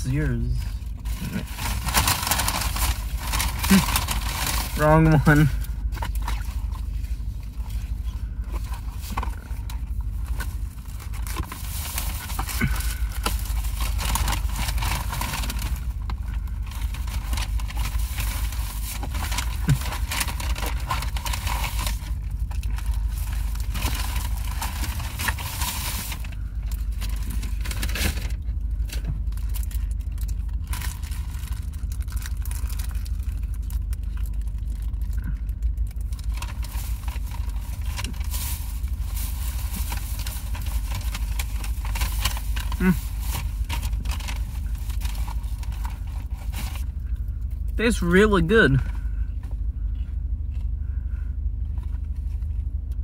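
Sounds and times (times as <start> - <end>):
paper wrapper crinkling: 0.0 - 48.9
low rumble inside car: 0.0 - 53.0.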